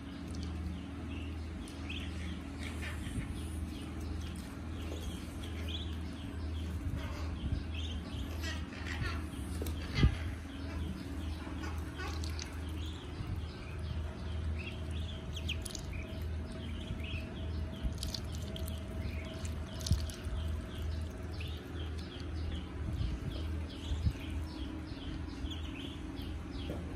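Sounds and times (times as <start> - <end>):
ducklings peeping: 0.0 - 26.9
low steady hum: 0.0 - 26.9.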